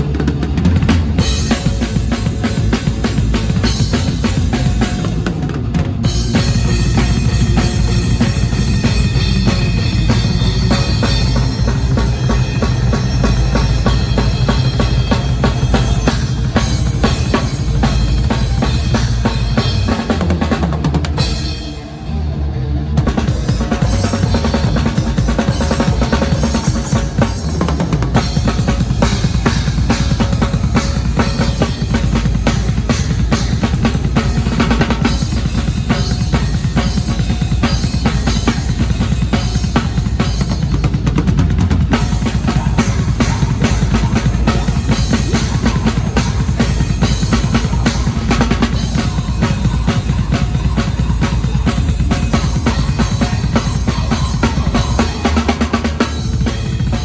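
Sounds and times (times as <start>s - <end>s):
metal band playing: 0.0s - 22.3s, 22.9s - 57.0s.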